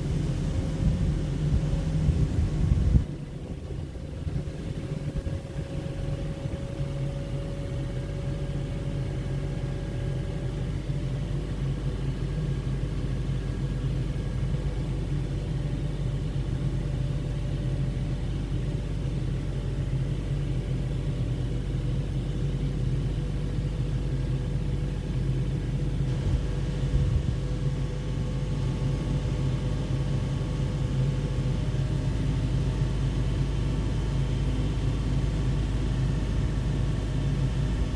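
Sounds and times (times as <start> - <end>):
truck engine running: 0.0 - 37.9.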